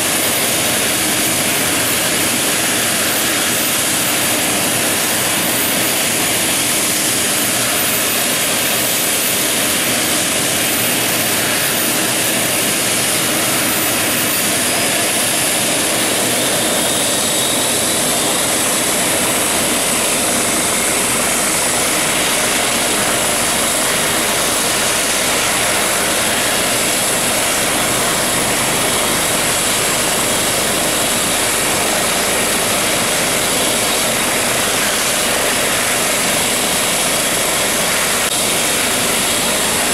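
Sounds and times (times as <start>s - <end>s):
faint high turbine whine: 0.0s - 39.9s
helicopter running: 0.0s - 39.9s.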